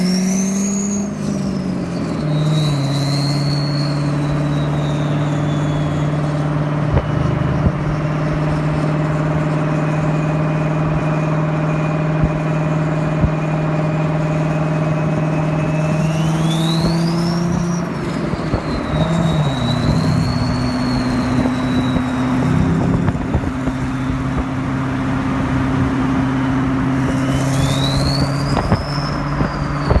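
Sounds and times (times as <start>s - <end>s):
car engine driving: 0.0s - 30.0s
turbocharger whistling: 0.0s - 30.0s.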